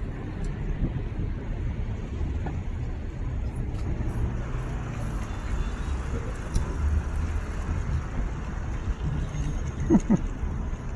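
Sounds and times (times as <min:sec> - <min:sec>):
city traffic rumble: 0:00.0 - 0:10.9.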